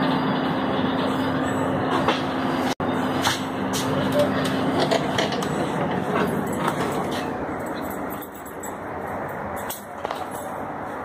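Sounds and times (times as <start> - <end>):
passenger train rumble from inside: 0.0 - 11.0.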